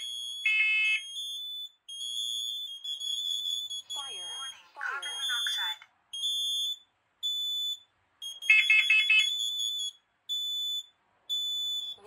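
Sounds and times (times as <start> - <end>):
faster lower alarm beeps: 0.0 - 12.0
high piercing alarm beeps: 0.0 - 12.0.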